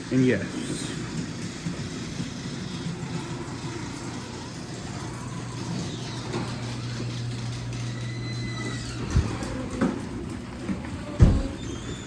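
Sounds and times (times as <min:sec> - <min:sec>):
garage door opener motor humming: 0:00.0 - 0:12.0.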